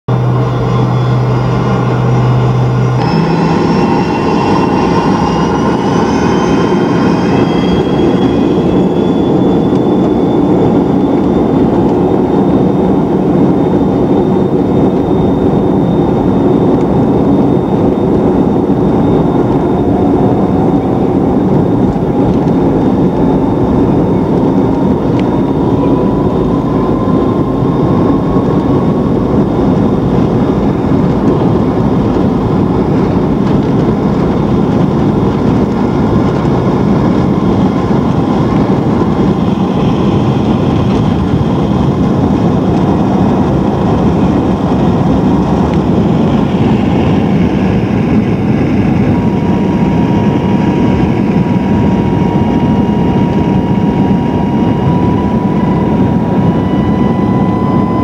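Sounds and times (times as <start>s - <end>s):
jet engine rush: 0.1s - 58.0s
thin whine: 0.1s - 58.0s
wheels rumbling on runway: 0.1s - 58.0s.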